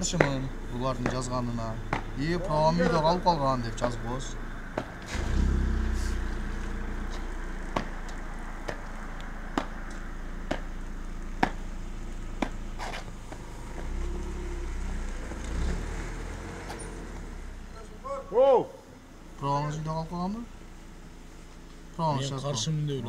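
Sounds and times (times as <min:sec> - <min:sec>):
engine rumbling: 0:00.0 - 0:23.0.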